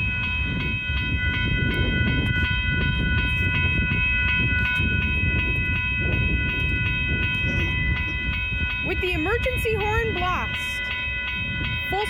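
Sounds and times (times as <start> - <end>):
crossing bell ringing: 0.0 - 12.0.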